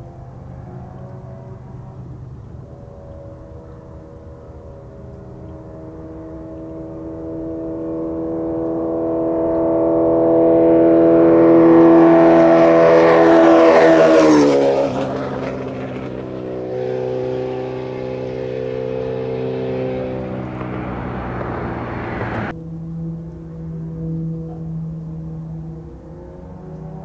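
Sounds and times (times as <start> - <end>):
motorcycle engine passing by: 0.0 - 27.0.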